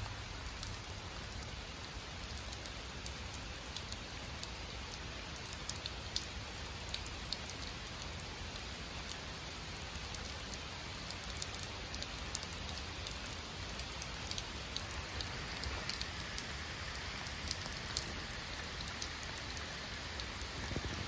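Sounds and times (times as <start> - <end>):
steady rain on rock and trees: 0.0 - 21.0.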